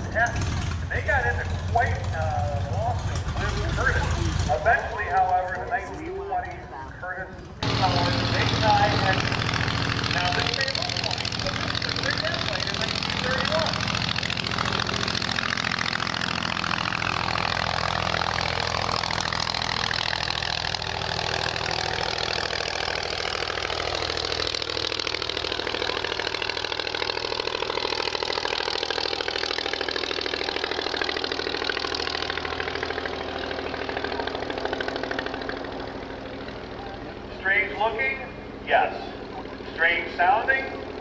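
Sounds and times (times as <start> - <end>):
small aircraft engine at full power: 0.0 - 41.0.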